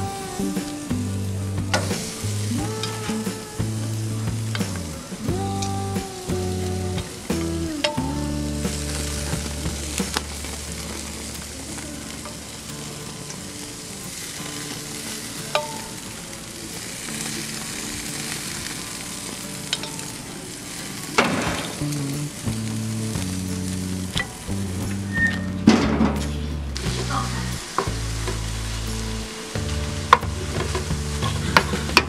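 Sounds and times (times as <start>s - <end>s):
background music: 0.0s - 32.0s
food sizzling on a grill: 0.0s - 32.0s.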